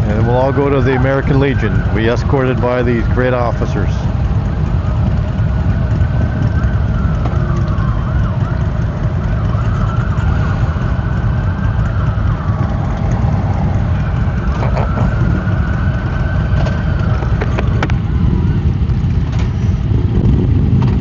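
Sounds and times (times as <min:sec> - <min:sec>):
heavy low rumble: 0:00.0 - 0:21.0
sirens wailing: 0:00.0 - 0:21.0.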